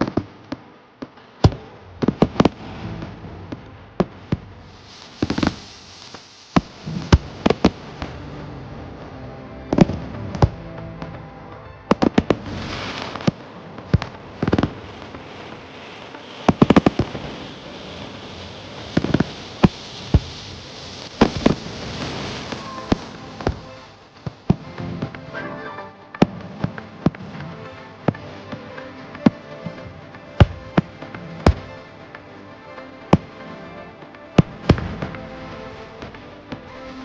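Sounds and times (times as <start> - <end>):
background rumble and hiss: 0.0 - 25.4, 26.0 - 37.0.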